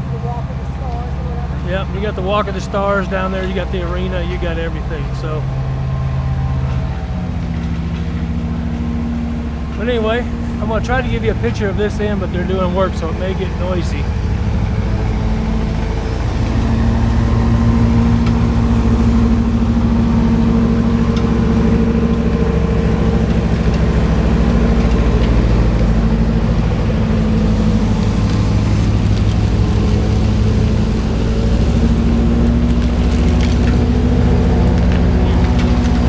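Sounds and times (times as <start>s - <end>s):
road-work machinery engine: 0.0s - 36.0s.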